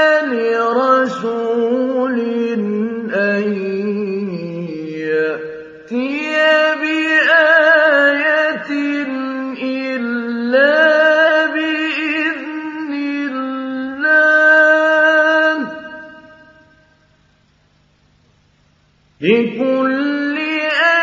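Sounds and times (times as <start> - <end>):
man chanting melodically: 0.0 - 16.8, 19.2 - 21.0.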